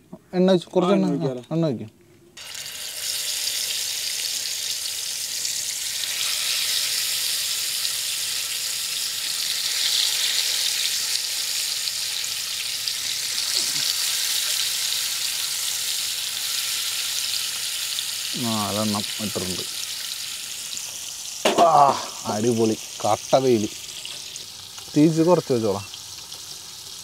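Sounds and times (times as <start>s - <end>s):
fish sizzling in hot oil: 2.4s - 27.0s.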